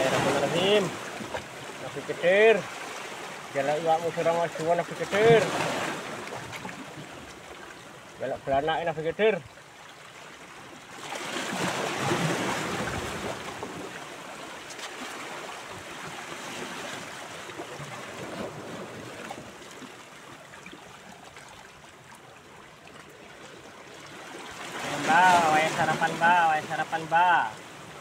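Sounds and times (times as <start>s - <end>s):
waves splashing against rocks: 0.0s - 22.0s, 22.9s - 28.0s.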